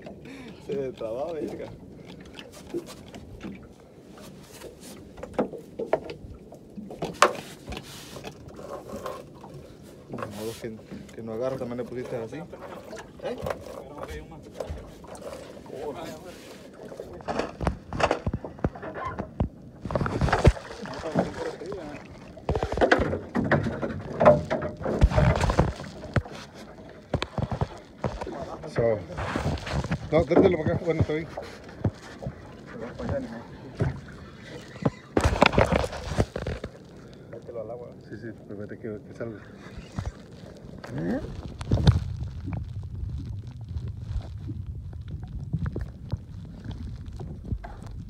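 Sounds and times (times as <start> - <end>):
knocks and thumps on boat: 0.0 - 36.8, 40.9 - 48.0
short water splashes: 0.0 - 48.0.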